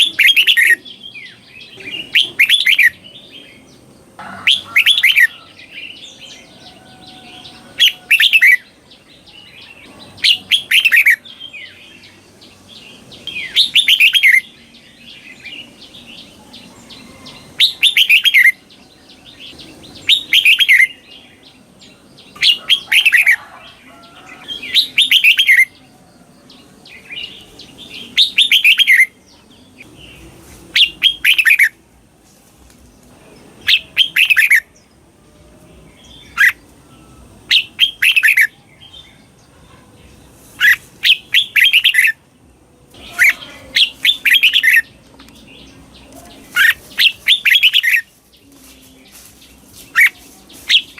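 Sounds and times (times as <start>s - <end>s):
bird singing fluty phrases: 0.0s - 31.8s, 32.9s - 50.9s.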